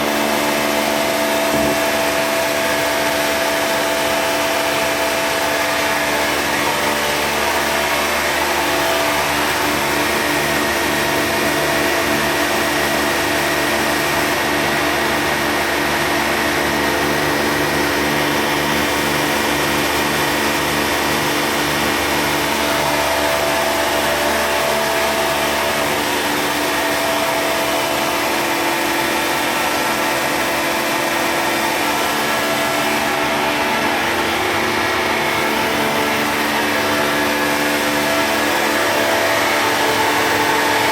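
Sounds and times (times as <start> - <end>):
vacuum pump humming and pulsing: 0.0 - 40.9.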